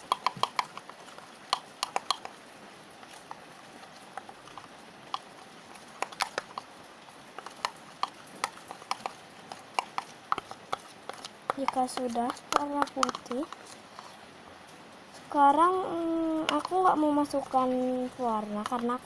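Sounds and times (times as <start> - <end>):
stirrer clicking against container: 0.0 - 2.4, 3.0 - 6.7, 7.3 - 14.2, 16.2 - 19.0.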